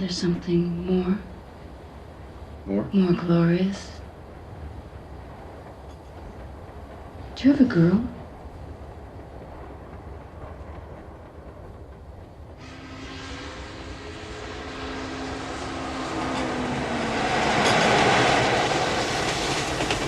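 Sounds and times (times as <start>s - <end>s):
passenger train rumbling: 0.0s - 20.0s.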